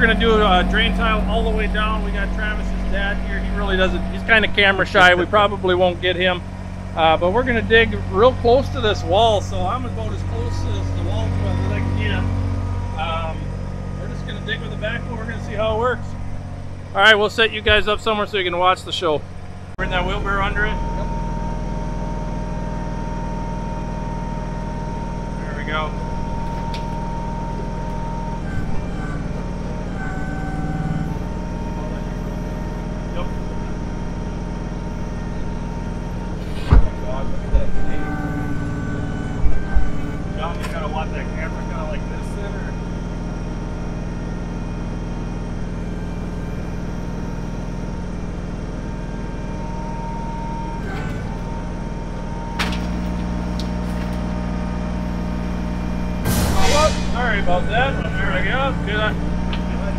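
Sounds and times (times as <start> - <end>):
hydraulic whine: 0.0 - 59.9
tractor diesel engine running: 0.0 - 59.9.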